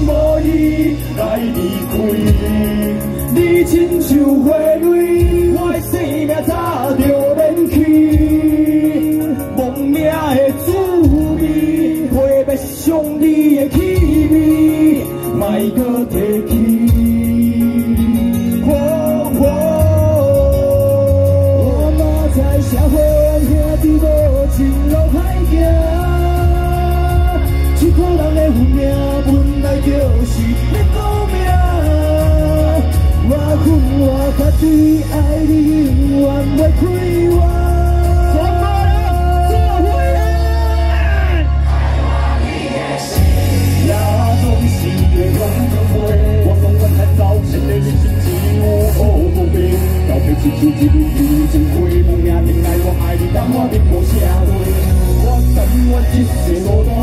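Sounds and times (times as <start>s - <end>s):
men singing into microphones: 0.0s - 57.0s
pop backing track: 0.0s - 57.0s.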